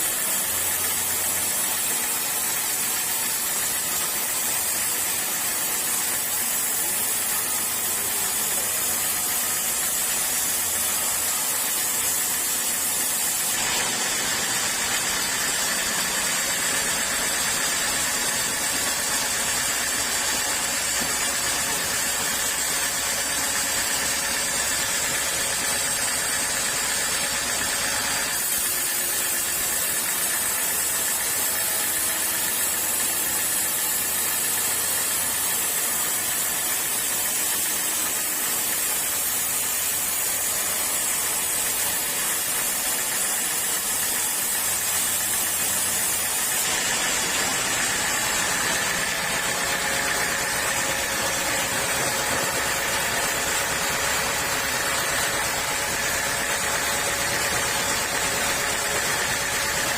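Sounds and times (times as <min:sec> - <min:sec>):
sawmill saw running: 0:00.0 - 0:59.9.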